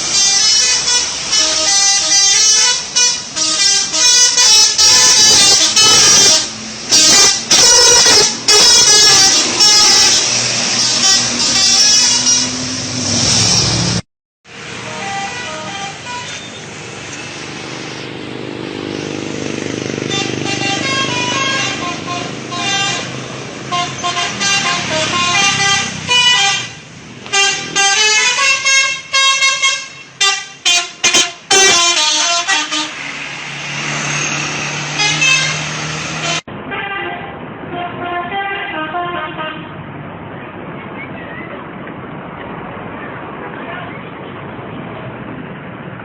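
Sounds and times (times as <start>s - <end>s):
tuned air horns tooting a tune: 0.0s - 18.2s, 19.8s - 39.8s
bus engine running: 0.0s - 46.0s.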